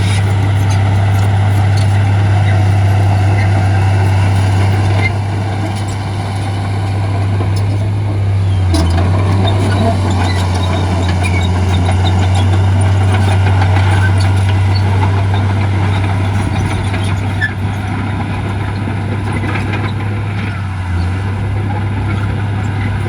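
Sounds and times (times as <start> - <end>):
diesel machinery engine drone: 0.0 - 23.0.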